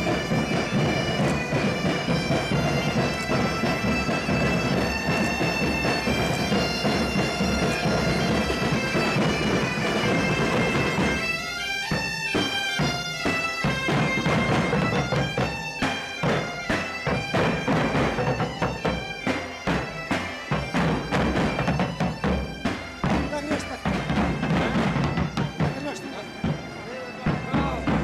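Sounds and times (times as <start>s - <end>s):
bagpipes playing over drone: 0.0s - 28.0s
drums beating a march: 0.0s - 28.0s.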